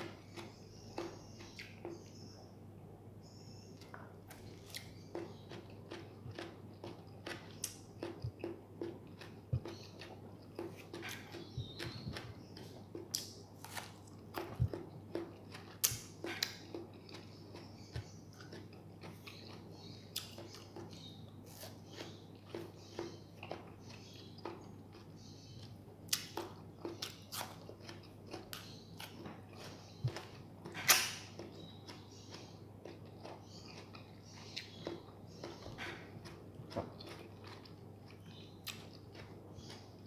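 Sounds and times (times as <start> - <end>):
person chewing: 3.8 - 40.0.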